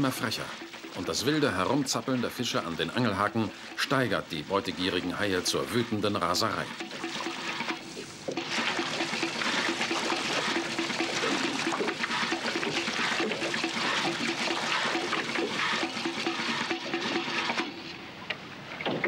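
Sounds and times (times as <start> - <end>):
water splashing and churning: 0.0 - 19.0.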